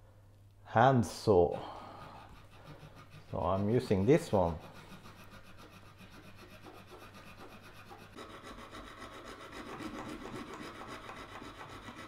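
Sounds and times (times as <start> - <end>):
hacksaw cutting plastic: 2.1 - 12.0.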